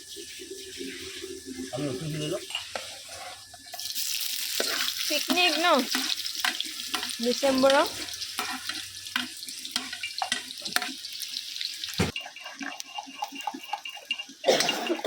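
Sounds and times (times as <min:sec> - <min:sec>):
spatula scraping a pan: 0:00.0 - 0:11.2, 0:12.1 - 0:14.5
food sizzling in a pan: 0:00.0 - 0:15.0.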